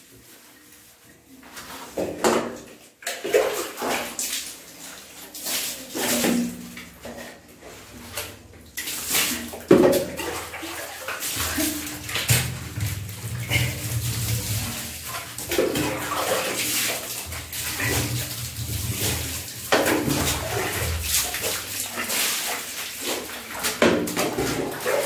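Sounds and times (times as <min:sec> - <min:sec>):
water running and splashing: 0:03.0 - 0:25.0.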